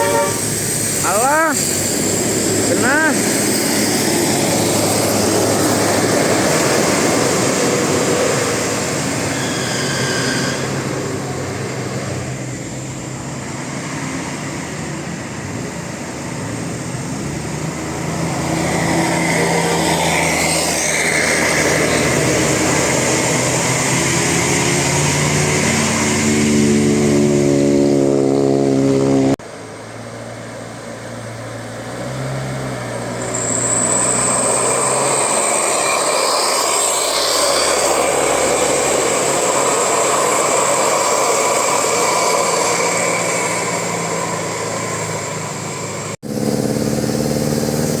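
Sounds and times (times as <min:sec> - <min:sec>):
bus engine running: 0:00.0 - 0:48.0.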